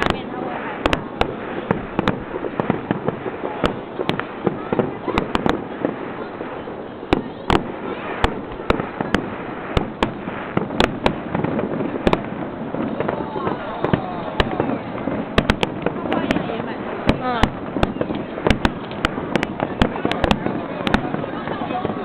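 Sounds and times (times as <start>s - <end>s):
fireworks bangs: 0.0s - 22.0s
fireworks crackle and rumble: 0.0s - 22.0s.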